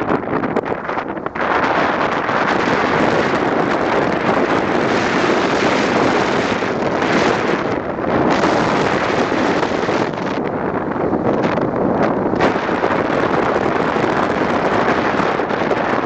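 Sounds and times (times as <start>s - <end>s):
road noise: 0.0s - 16.0s
wind roaring over microphone: 0.0s - 16.0s.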